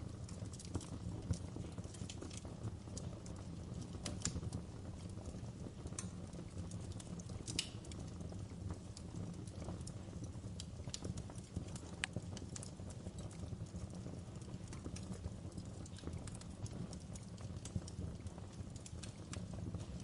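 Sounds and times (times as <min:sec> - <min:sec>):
logs crackling and popping: 0:00.0 - 0:20.0
low rumble of flames: 0:00.0 - 0:20.0.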